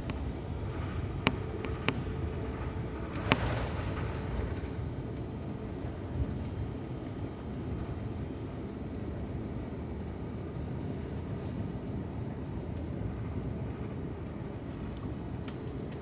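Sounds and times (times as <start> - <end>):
aircraft cabin rumble: 0.0 - 16.0.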